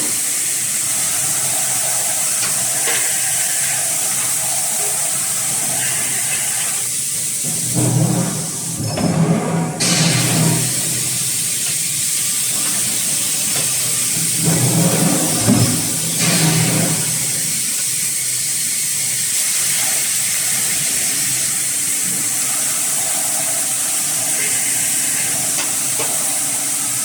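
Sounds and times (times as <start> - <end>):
machinery hiss: 0.0 - 27.0.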